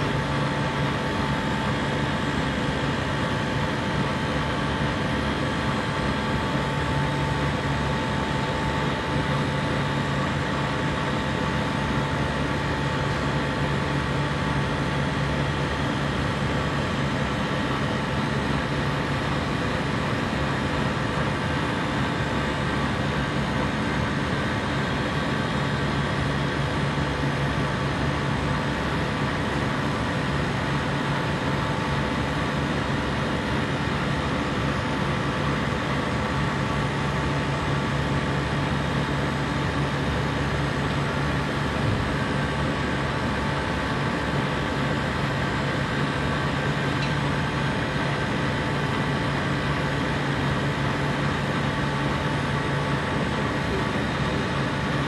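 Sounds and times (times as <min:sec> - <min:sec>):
compressor humming: 0:00.0 - 0:55.0.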